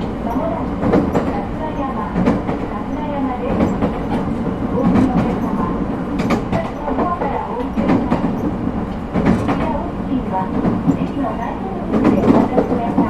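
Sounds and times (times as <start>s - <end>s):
train wheels and traction rumble: 0.0s - 13.0s.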